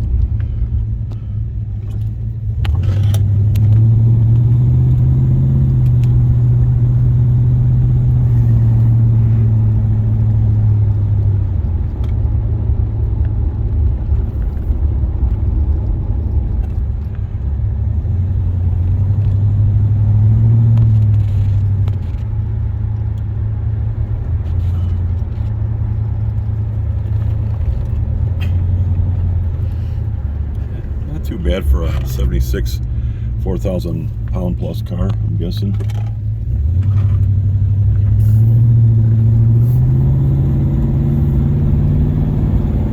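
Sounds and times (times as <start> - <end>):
car engine droning: 0.0 - 42.9
road noise: 0.0 - 42.9.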